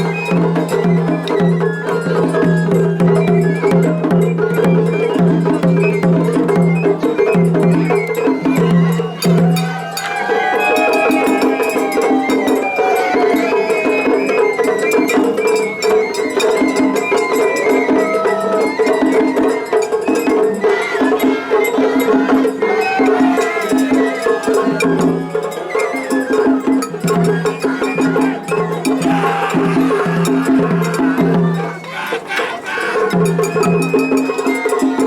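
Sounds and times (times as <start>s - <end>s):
bamboo flute melodies: 0.0s - 35.0s
drums: 0.0s - 35.0s.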